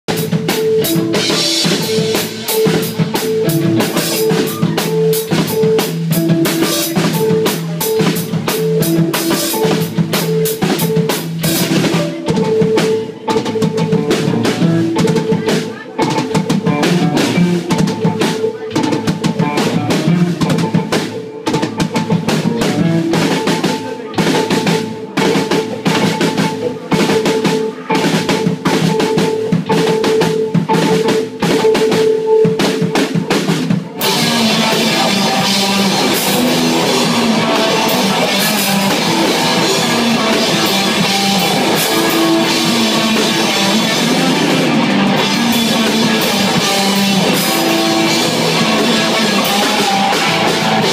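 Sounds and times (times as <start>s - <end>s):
drum kit playing a busy beat: 0.0s - 50.9s
rock band with distorted guitars: 0.0s - 50.9s.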